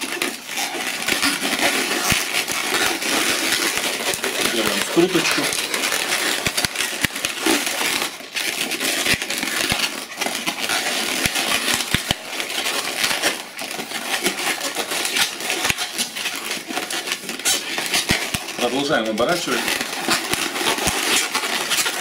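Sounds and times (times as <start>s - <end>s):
balloons squeaking and rubbing: 0.0s - 22.0s.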